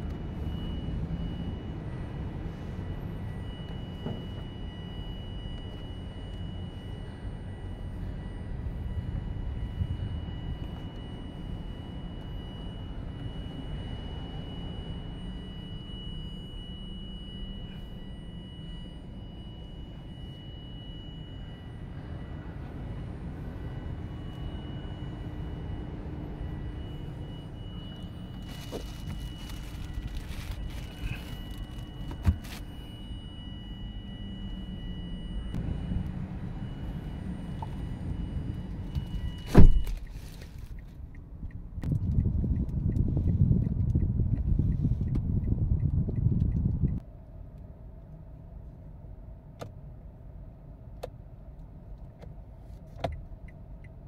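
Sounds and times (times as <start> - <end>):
low rumble in car cabin: 0.0 - 54.0.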